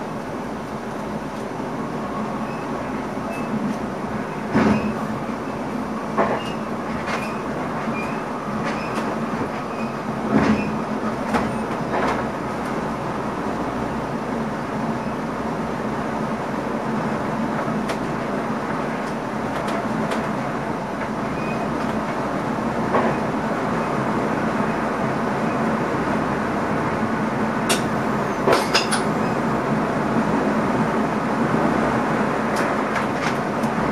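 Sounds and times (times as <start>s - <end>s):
train running noise: 0.0s - 33.9s.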